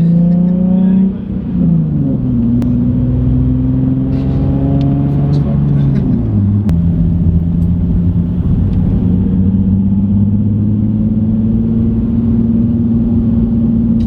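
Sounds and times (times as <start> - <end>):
car engine and exhaust while driving: 0.0 - 14.0.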